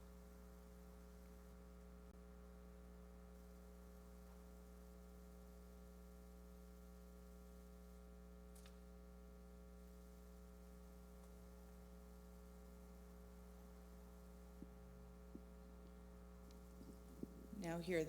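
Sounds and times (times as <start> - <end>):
low electrical mains hum: 0.0 - 18.0.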